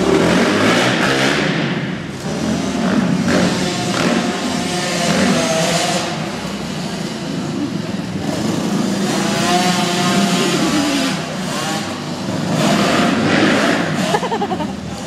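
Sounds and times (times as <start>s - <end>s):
dirt bikes revving: 0.0s - 15.0s.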